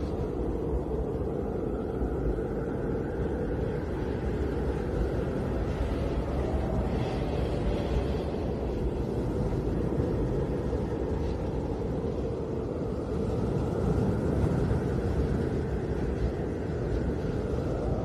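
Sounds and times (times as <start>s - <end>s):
snowstorm wind rumbling rush: 0.0s - 18.0s.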